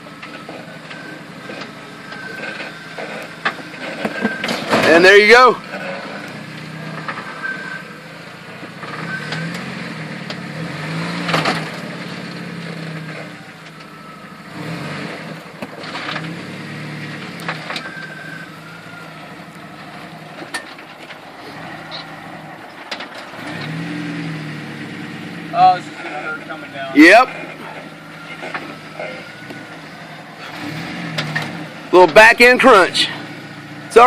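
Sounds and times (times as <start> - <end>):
off-road engine revving: 0.0 - 34.0.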